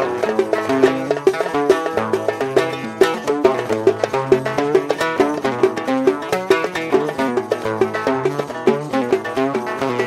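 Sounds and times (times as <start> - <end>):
light percussion beat: 0.0 - 10.0
oud plucked notes: 0.0 - 10.0.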